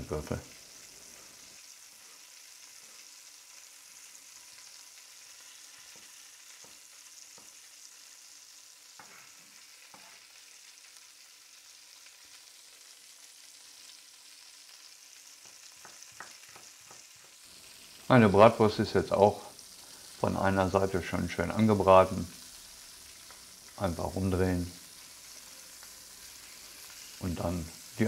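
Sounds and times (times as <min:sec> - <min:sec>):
sausages sizzling in fat: 0:00.0 - 0:28.0.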